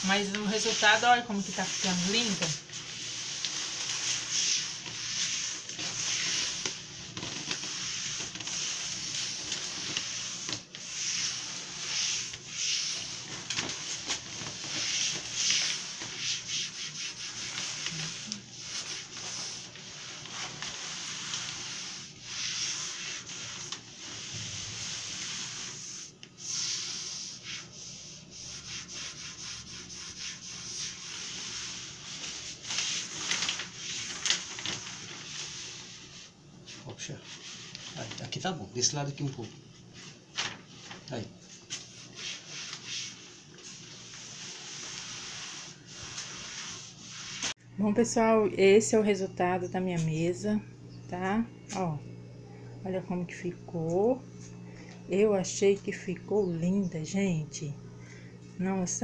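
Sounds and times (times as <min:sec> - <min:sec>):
cloth rubbing over contact paper: 0:00.0 - 0:47.6.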